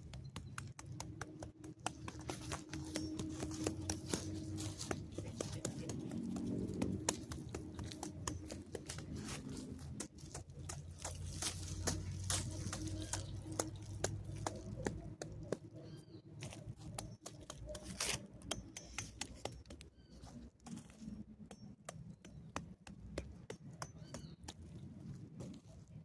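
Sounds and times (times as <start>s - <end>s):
dry crackles and snaps: 0.0s - 25.8s
low steady rumble: 0.0s - 26.0s.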